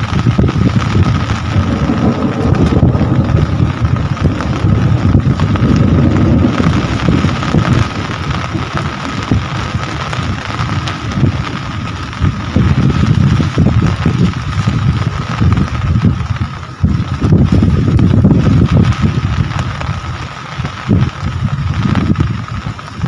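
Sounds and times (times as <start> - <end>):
heavy rain falling: 0.0 - 23.0
low uneven rumble: 0.0 - 23.0.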